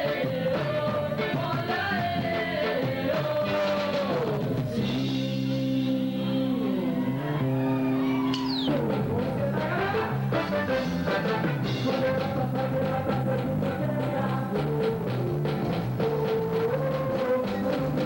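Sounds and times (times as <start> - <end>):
bass line: 0.0 - 18.0
drum kit beats: 0.0 - 18.0.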